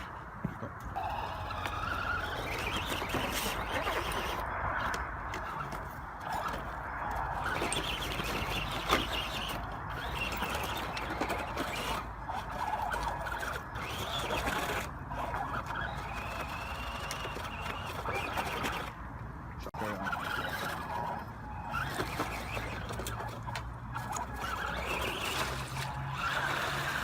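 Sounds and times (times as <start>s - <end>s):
gritty rumble: 0.0s - 27.0s
electric motor whining: 0.8s - 19.0s, 19.7s - 27.0s.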